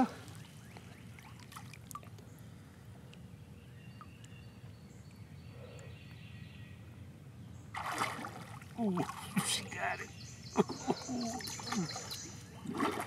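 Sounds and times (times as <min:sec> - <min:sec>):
low steady water murmur: 0:00.0 - 0:13.0.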